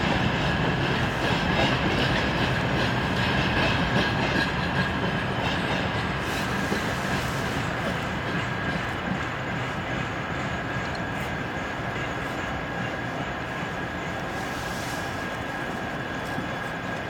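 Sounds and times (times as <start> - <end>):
freight train rumbling and rattling: 0.0 - 17.0.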